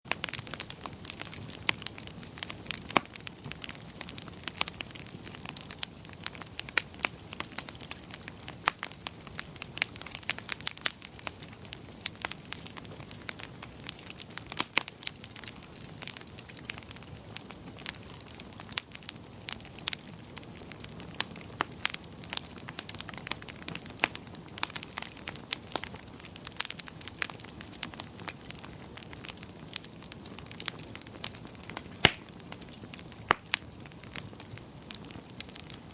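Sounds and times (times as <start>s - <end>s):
fire crackling and popping: 0.1s - 35.9s
low hiss of fire: 0.1s - 35.9s.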